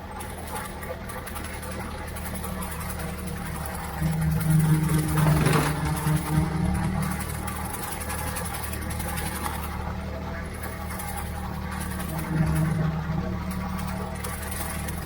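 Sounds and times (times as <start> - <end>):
rotary mower cutting grass: 0.0 - 15.0
tractor engine running: 0.0 - 15.0.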